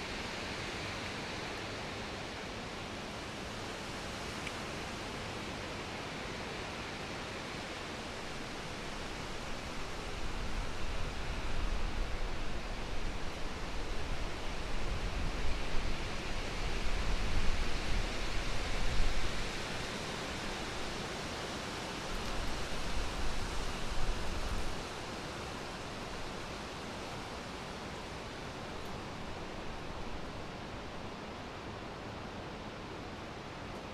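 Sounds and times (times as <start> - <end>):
wind rushing through trees: 0.0 - 33.9.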